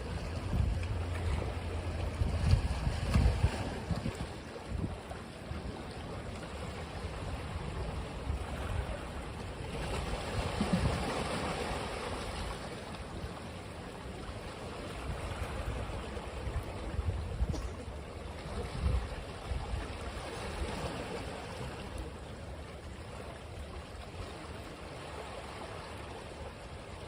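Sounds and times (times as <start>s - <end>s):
ocean waves washing onto beach: 0.0s - 27.0s.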